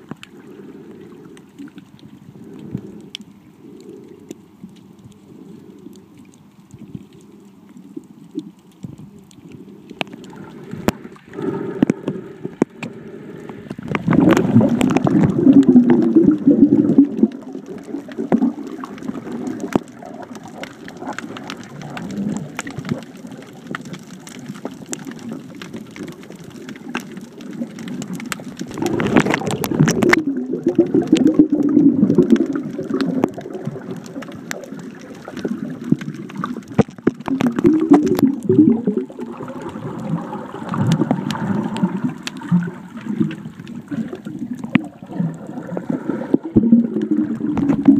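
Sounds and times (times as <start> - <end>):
underwater bubbling: 0.0 - 47.9
underwater sloshing and gurgling: 0.0 - 47.9.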